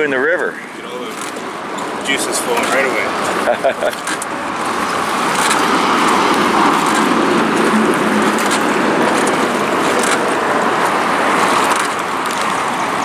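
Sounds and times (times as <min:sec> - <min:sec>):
river water rushing around boat: 0:00.9 - 0:13.0.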